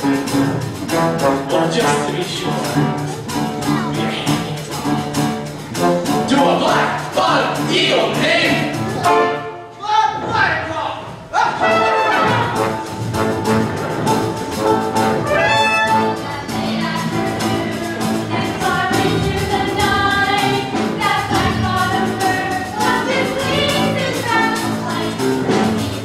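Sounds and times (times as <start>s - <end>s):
pit band with brass playing: 0.0s - 10.4s, 11.1s - 26.0s
musical theatre singing: 0.0s - 26.0s.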